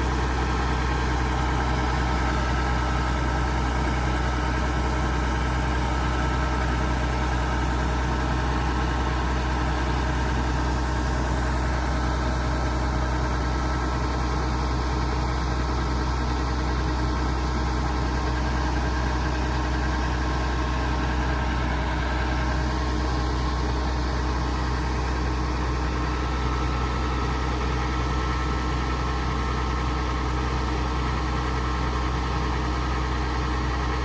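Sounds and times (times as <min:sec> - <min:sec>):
combine harvester diesel engine: 0:00.0 - 0:34.0.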